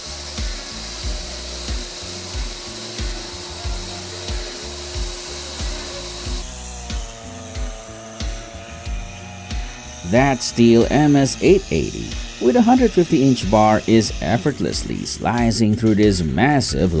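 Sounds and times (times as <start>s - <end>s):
background music with steady beat: 0.0s - 17.0s
power saw cutting wood: 0.0s - 17.0s.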